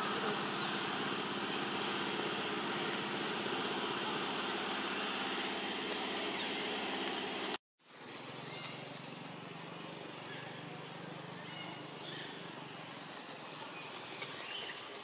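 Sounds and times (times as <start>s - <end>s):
engine humming: 0.0s - 14.3s.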